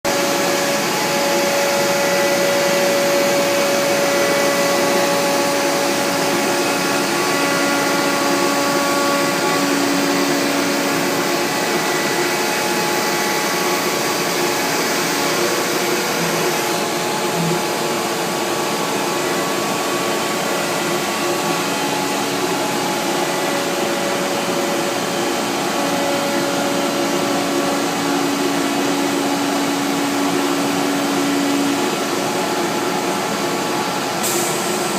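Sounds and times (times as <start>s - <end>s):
cnc router milling: 0.1s - 34.9s.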